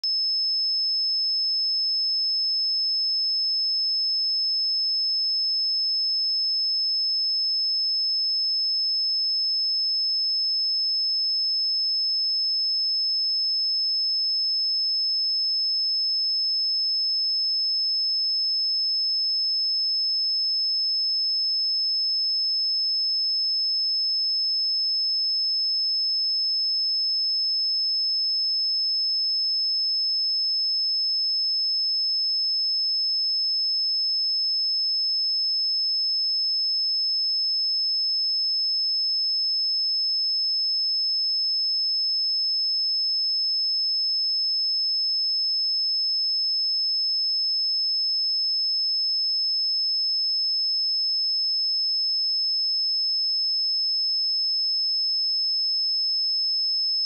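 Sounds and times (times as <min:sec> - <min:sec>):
high-pitched sine test tone: 0:00.0 - 0:57.0.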